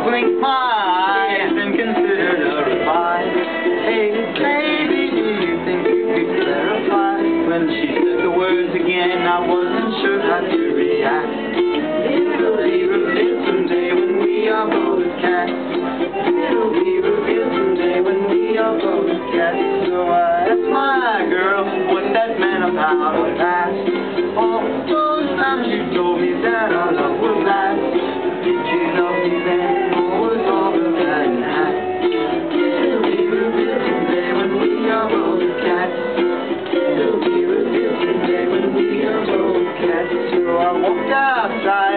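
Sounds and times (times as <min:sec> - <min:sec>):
ukulele playing: 0:00.0 - 0:41.9.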